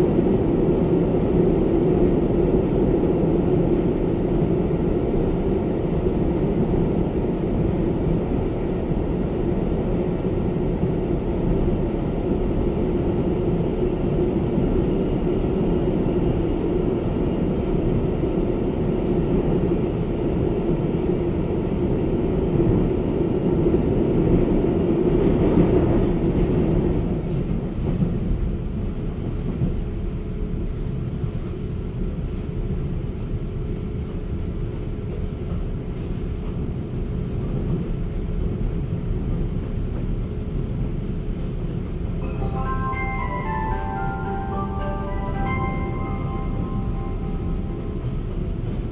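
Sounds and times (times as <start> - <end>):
electric train rumbling: 0.0 - 48.9.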